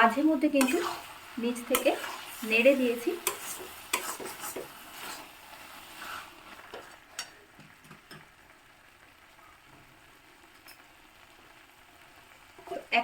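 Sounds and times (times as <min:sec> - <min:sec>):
faint sizzle of food cooking: 0:00.0 - 0:13.0.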